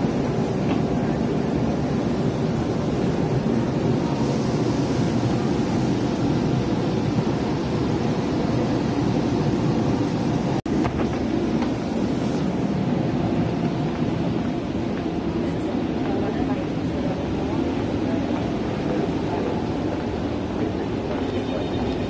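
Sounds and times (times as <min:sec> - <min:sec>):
train carriage rumbling: 0:00.0 - 0:22.0.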